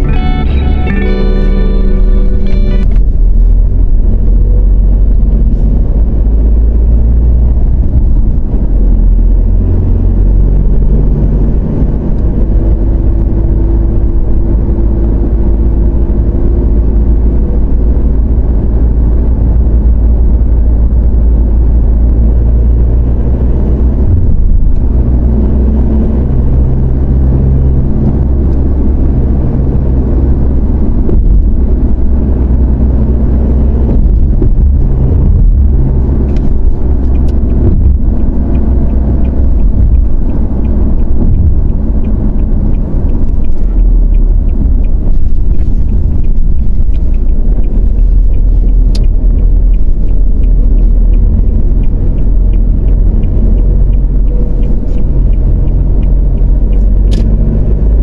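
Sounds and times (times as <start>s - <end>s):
engine and road noise rumble: 0.0s - 58.0s.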